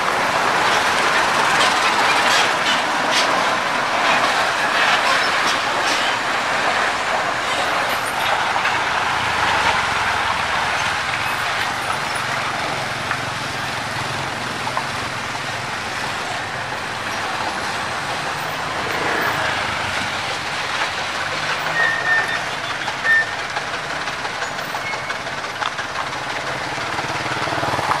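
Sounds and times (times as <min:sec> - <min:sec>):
heavy trucks on rough road: 0:00.0 - 0:28.0.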